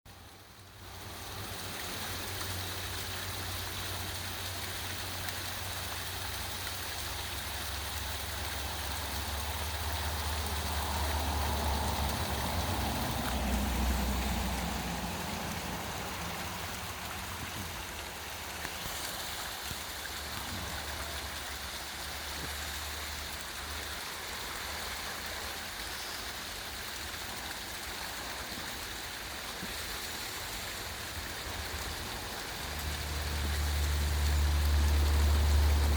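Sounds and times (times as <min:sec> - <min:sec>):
waterfall pouring and splashing: 0:00.1 - 0:35.9.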